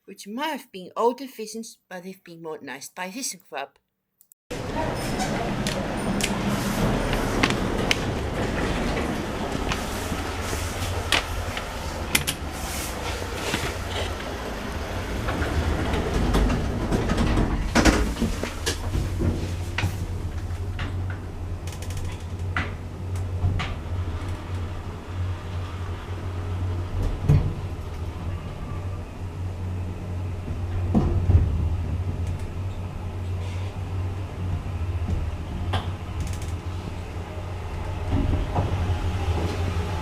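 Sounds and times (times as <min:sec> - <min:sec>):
lift motor humming: 0:04.5 - 0:40.0.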